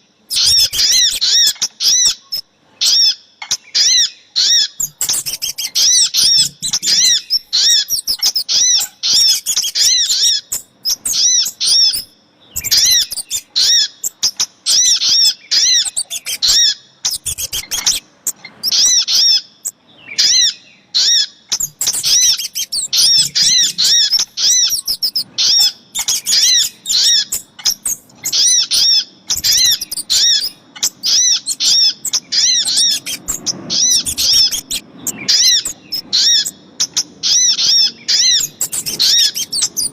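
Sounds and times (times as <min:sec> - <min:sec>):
bird calls sharp high chips: 0:00.3 - 0:02.4, 0:04.6 - 0:19.8, 0:21.5 - 0:39.9.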